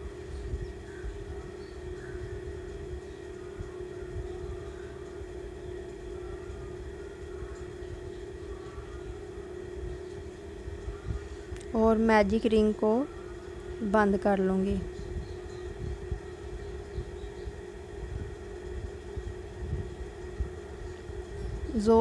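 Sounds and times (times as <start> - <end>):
low background hum: 0.0 - 22.0
uneven low rumble: 0.0 - 22.0.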